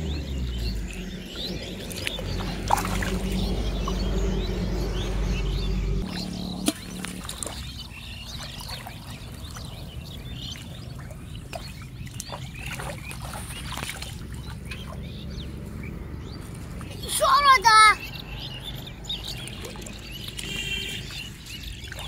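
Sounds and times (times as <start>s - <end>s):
water sloshing from wading: 0.0s - 22.0s.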